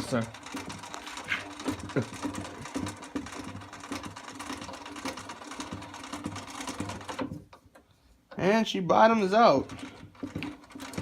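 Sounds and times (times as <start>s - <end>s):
crank mechanism clicking rapidly: 0.0s - 7.7s, 8.3s - 11.0s.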